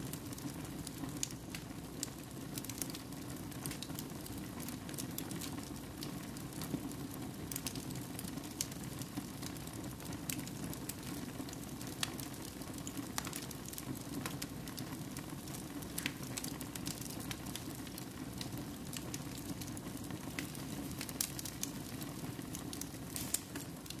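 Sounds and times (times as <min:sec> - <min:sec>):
wood crackling and popping: 0:00.0 - 0:24.0.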